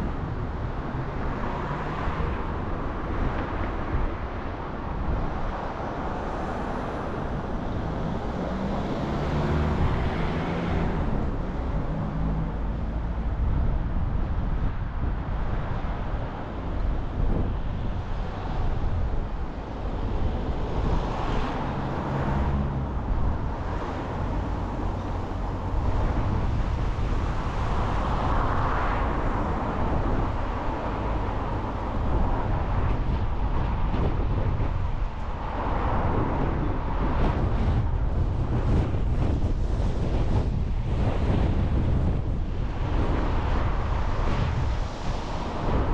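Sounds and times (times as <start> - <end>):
passing traffic: 0.0 - 45.9
tyre and road noise: 0.0 - 45.9.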